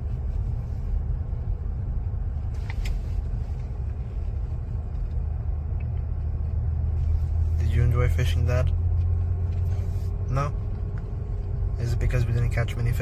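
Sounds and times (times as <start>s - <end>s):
road rumble inside moving car: 0.0s - 13.0s.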